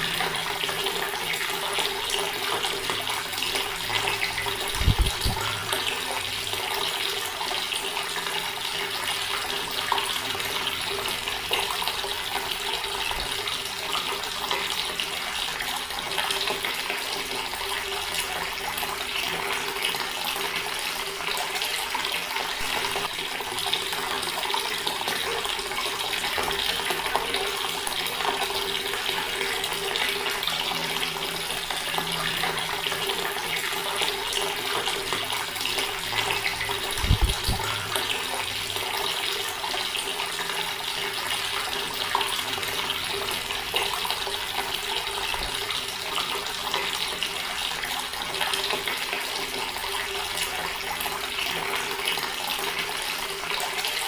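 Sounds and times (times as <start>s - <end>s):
water running from tap: 0.0s - 54.0s.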